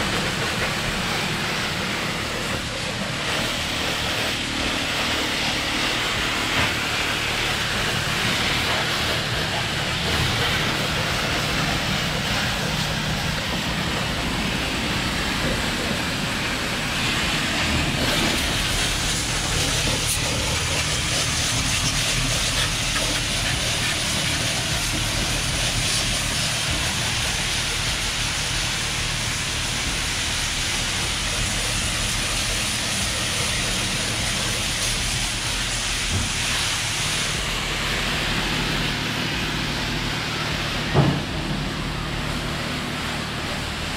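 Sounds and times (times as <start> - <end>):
pressure washer spraying water: 0.0 - 43.9.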